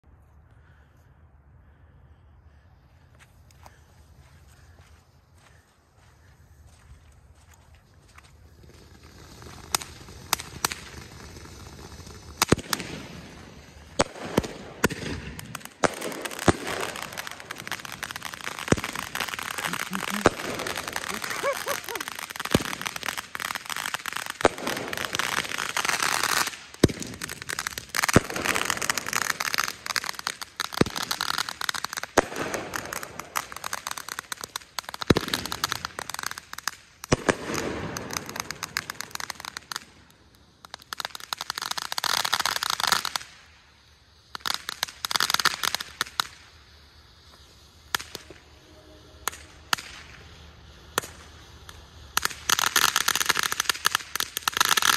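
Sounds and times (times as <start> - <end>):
firecrackers crackling: 2.5 - 54.9
fireworks bangs: 7.5 - 43.5, 44.3 - 54.9.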